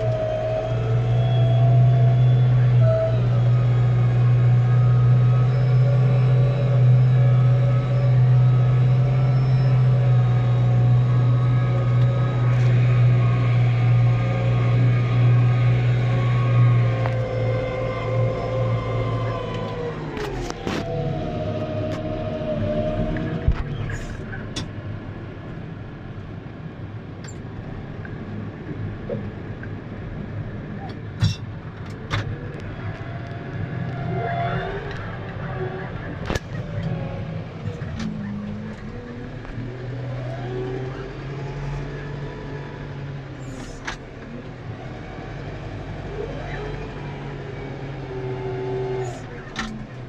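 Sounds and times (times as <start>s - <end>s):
tractor diesel engine hum: 0.0s - 50.0s.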